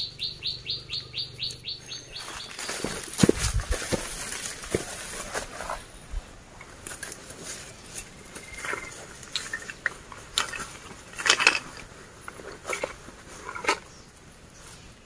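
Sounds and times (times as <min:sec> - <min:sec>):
dry leaves crackling underfoot: 0:02.0 - 0:15.0.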